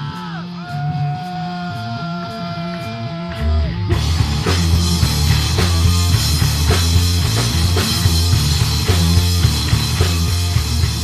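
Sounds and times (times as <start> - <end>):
bass guitar: 0.0 - 11.0
drum kit: 0.0 - 11.0
electric guitars: 0.0 - 11.0.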